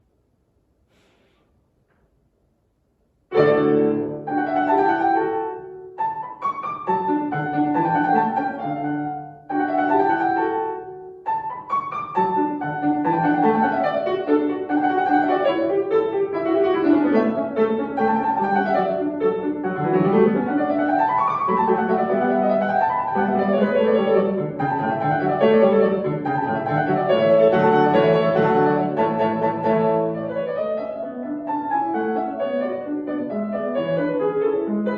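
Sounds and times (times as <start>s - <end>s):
solo piano classical piece: 3.2s - 34.9s.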